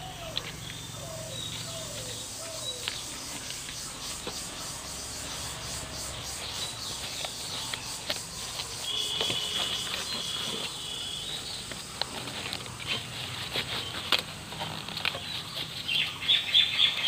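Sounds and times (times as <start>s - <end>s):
dove cooing: 0.0s - 17.0s
small birds chirping: 0.0s - 17.0s
leaf bundle clicks: 0.2s - 16.2s.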